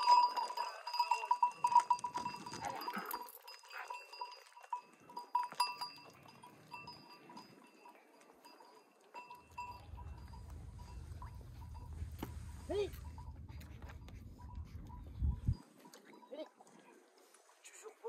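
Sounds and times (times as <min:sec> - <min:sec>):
sheep bells clanking: 0:00.0 - 0:16.8
hooves shuffling on dry ground: 0:00.0 - 0:17.7.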